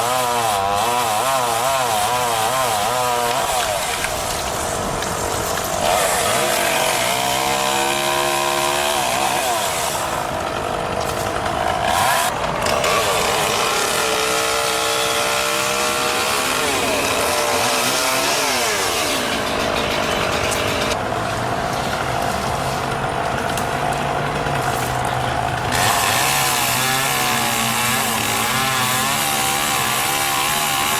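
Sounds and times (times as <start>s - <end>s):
chainsaw revving: 0.0s - 30.9s.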